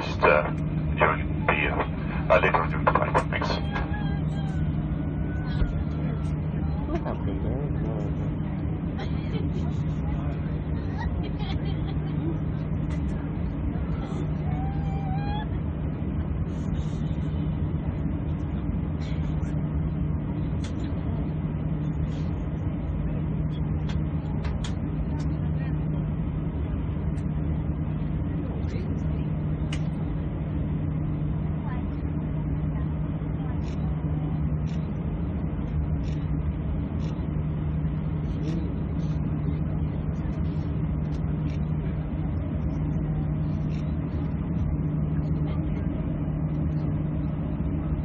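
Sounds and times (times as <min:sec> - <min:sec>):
aircraft engines idling: 0:00.0 - 0:48.0
airliner cabin drone: 0:00.0 - 0:48.0
low hum: 0:00.0 - 0:48.0.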